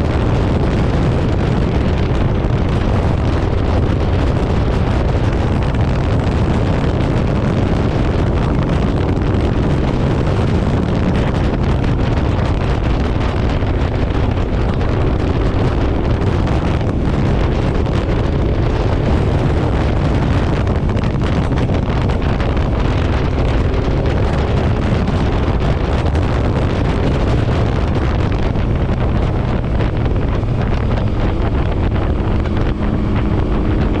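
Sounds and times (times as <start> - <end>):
motorcycle engine: 0.0 - 34.0
road noise: 0.0 - 34.0
wind rushing over microphone: 0.0 - 34.0.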